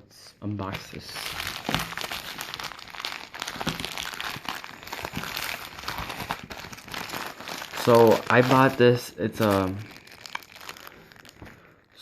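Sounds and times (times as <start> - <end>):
packaging crinkling and rustling: 0.6 - 12.0.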